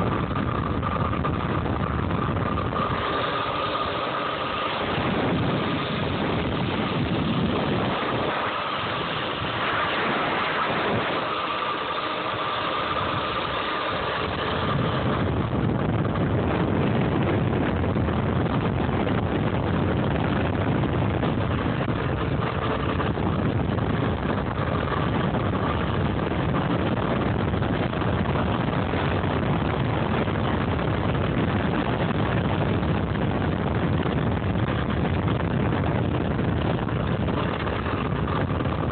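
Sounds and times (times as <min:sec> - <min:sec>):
electric motor whine: 0:00.0 - 0:38.9
wind buffeting microphone: 0:00.0 - 0:38.9.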